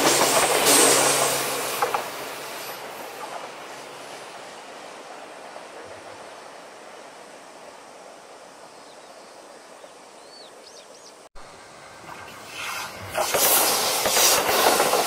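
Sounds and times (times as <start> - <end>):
electric train rumbling: 0.0 - 8.8, 11.4 - 15.0
train approaching: 0.0 - 9.5, 11.4 - 15.0.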